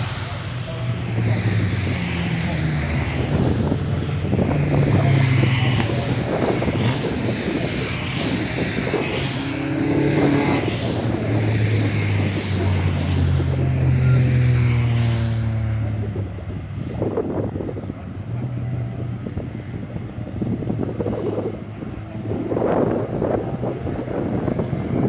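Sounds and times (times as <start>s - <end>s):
racing cars passing at speed: 0.0s - 25.0s.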